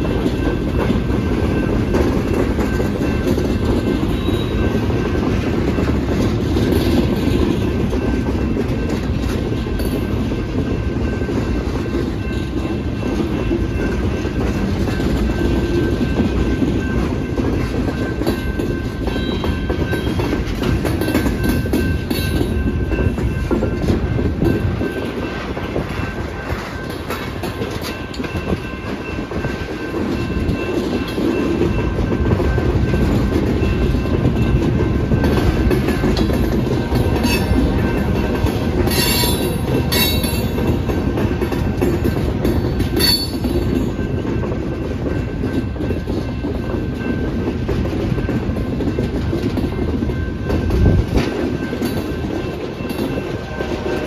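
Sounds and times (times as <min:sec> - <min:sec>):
freight train rumbling past: 0:00.0 - 0:54.0
wheels clacking over rail joints: 0:00.0 - 0:54.0.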